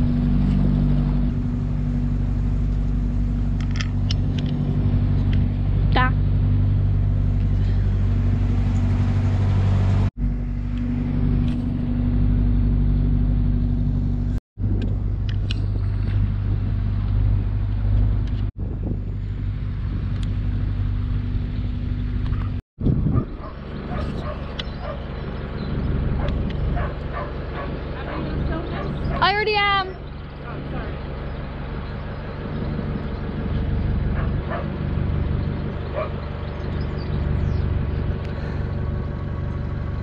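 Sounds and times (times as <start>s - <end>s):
boat diesel engine humming: 0.0s - 40.0s.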